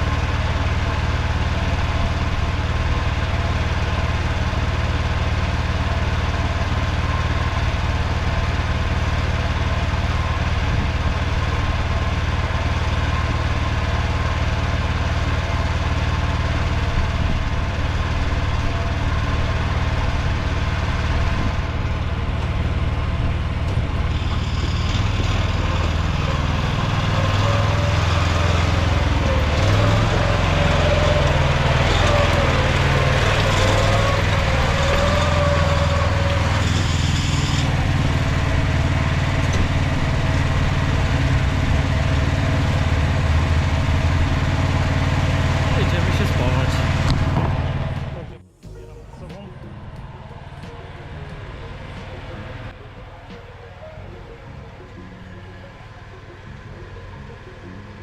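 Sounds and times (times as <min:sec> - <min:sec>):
small tractor engine running: 0:00.0 - 0:58.0.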